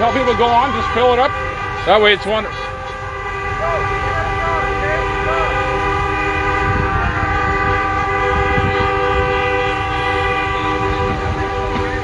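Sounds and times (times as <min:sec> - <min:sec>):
truck air horns chord: 0:00.0 - 0:12.0.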